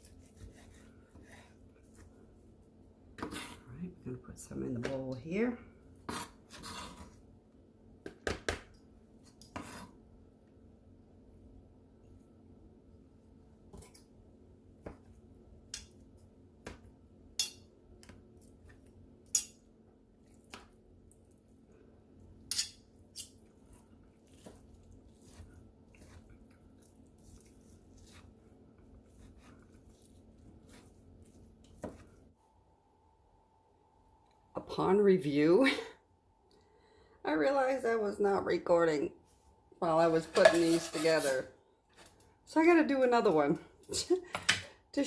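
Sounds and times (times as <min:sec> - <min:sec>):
faint steady hum: 0:00.0 - 0:40.3.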